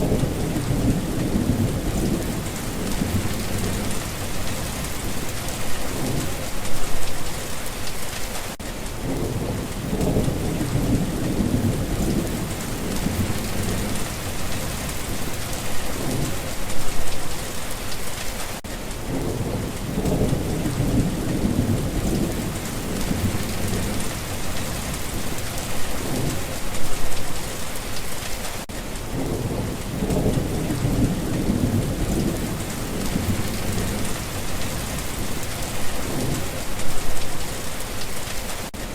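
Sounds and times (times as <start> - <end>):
low thunder rolling: 0.0 - 7.0, 9.0 - 17.2, 19.0 - 27.0, 29.1 - 37.4
steady rain: 0.0 - 38.9.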